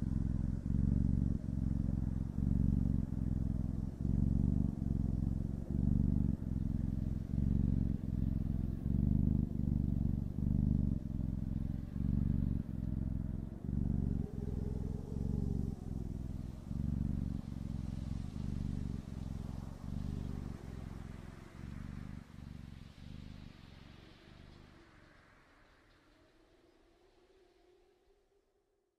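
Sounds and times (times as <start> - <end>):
cat purring: 0.0 - 27.8.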